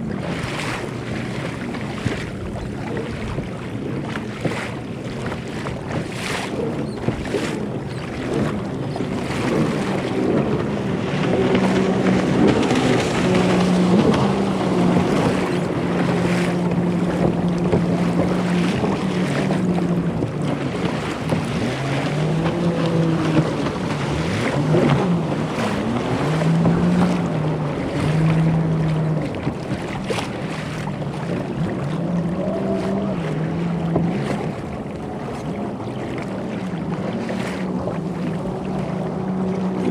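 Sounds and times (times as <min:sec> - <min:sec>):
water noise: 0:00.0 - 0:39.9
watercraft engine droning: 0:00.0 - 0:39.9
wind: 0:00.0 - 0:39.9.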